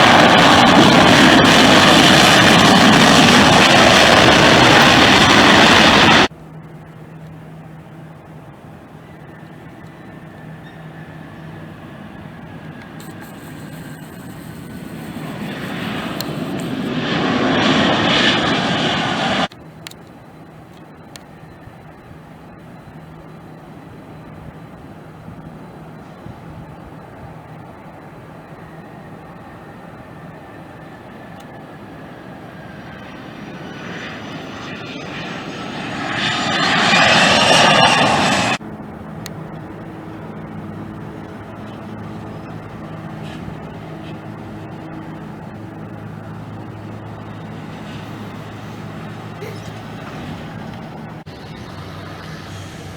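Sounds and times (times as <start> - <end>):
jet airliner engines: 0.0 - 52.9
steady low hum: 0.0 - 52.9.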